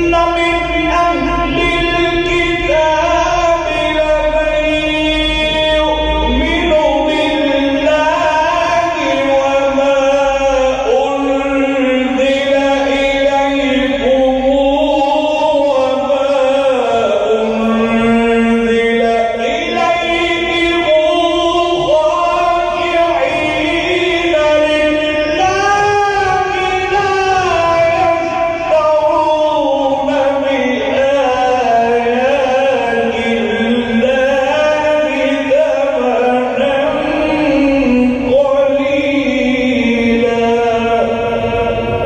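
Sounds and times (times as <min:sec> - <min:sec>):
person chanting melodically: 0:00.0 - 0:42.0.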